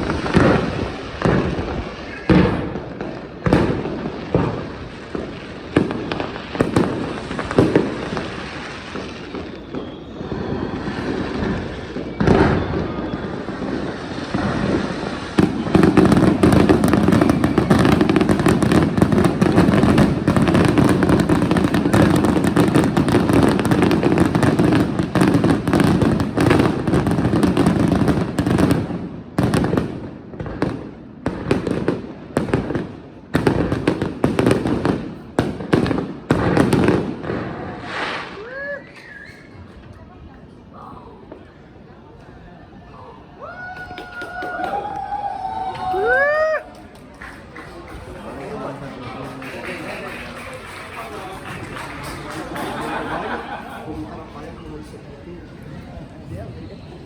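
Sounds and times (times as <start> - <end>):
fireworks bangs and crackle: 0.0 - 41.8, 43.5 - 57.0.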